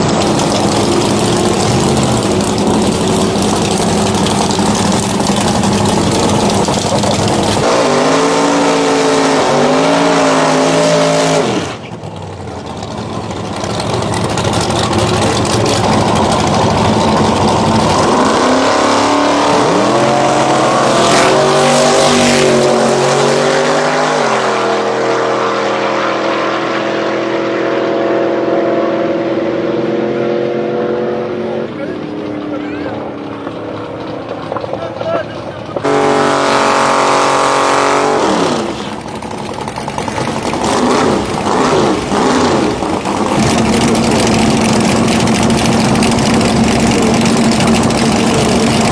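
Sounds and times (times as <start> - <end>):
car engine at full throttle: 0.0 - 48.9.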